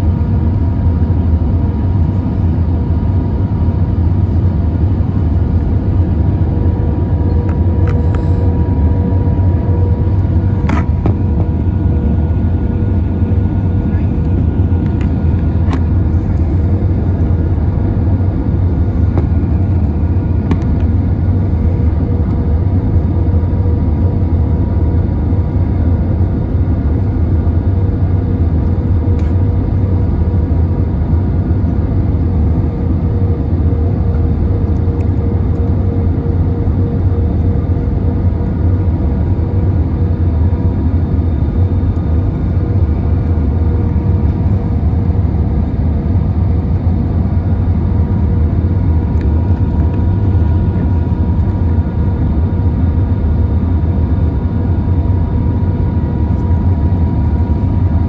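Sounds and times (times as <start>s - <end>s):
aircraft engine rumble: 0.0s - 58.0s
faint steady whine: 0.0s - 58.0s.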